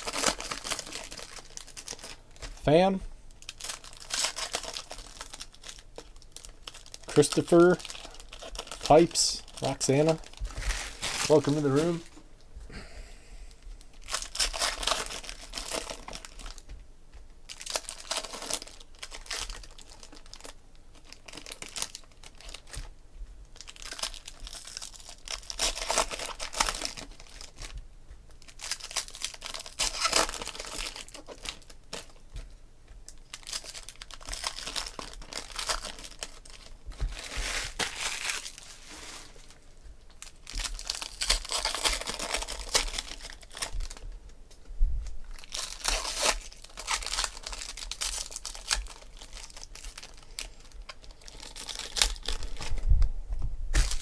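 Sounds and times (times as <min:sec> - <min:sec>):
foil wrappers crinkling and tearing: 0:00.0 - 0:12.2, 0:13.8 - 0:16.8, 0:17.4 - 0:44.1, 0:45.0 - 0:53.0, 0:53.7 - 0:54.0.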